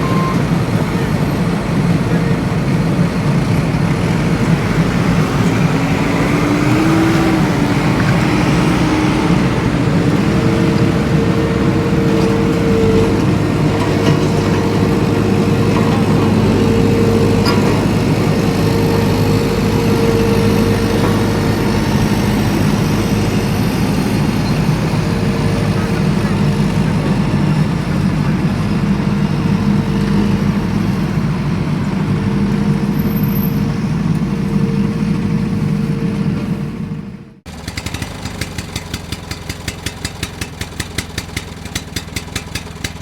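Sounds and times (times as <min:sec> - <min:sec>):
faint engine whine: 0:00.0 - 0:43.0
small tractor engine running: 0:00.0 - 0:43.0.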